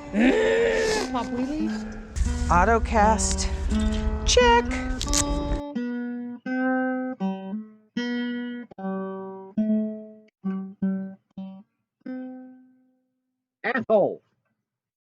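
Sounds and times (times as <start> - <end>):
guitar chords ringing: 0.0 - 12.8.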